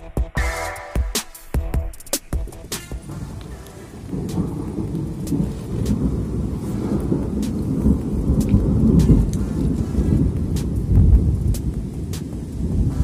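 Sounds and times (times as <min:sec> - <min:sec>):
sharp ticks: 0:02.0 - 0:12.6
distant thunder rumbling: 0:02.4 - 0:13.0.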